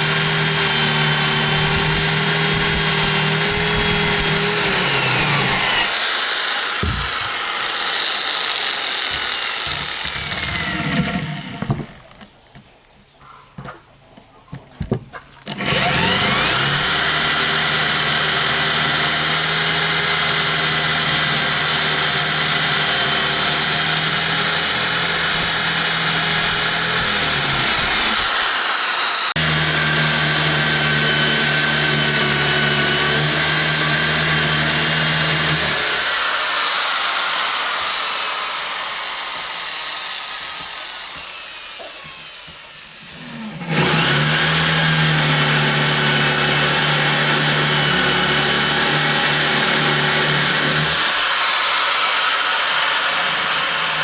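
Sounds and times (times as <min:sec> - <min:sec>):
power tool motor whining: 0:00.0 - 0:12.3, 0:15.4 - 0:54.0.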